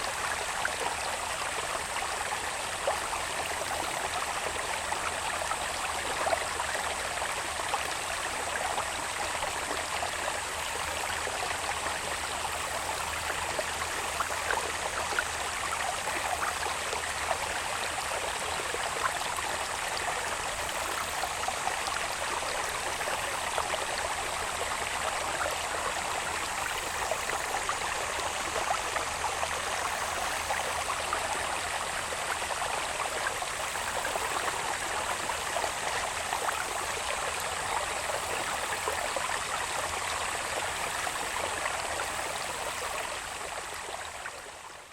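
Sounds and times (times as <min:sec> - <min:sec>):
water babbling in a channel: 0:00.0 - 0:44.9.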